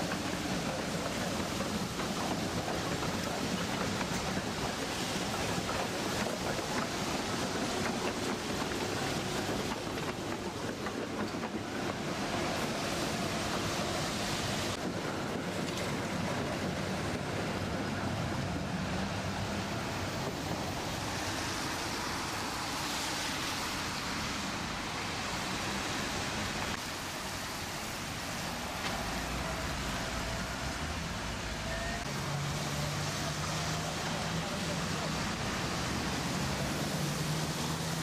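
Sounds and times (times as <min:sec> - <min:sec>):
tyres hissing on wet road: 0:00.0 - 0:38.0.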